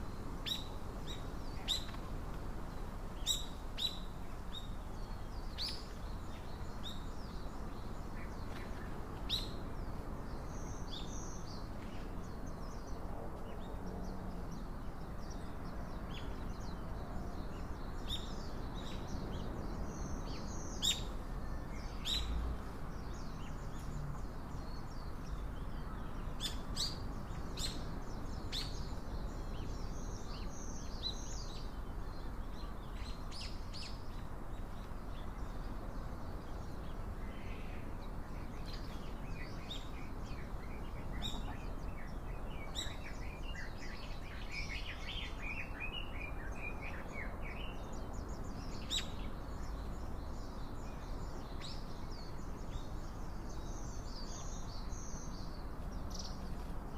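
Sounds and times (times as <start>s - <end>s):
low background noise: 0.0s - 56.9s
songbirds chirping: 0.0s - 56.9s.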